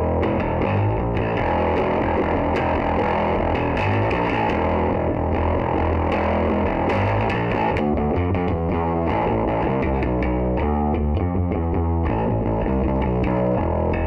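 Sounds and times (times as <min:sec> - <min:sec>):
fuzz-distorted electric guitar chords: 0:00.0 - 0:14.0.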